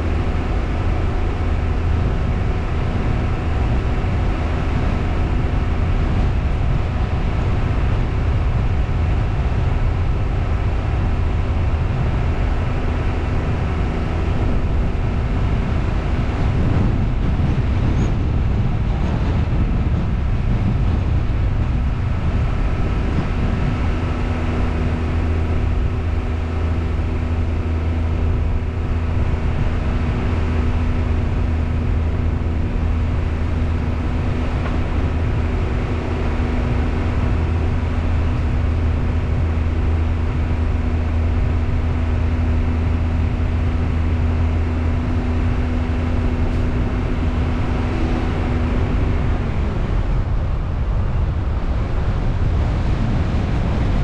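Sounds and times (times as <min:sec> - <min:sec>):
car engine humming: 0:00.0 - 0:54.0
road noise: 0:00.0 - 0:54.0.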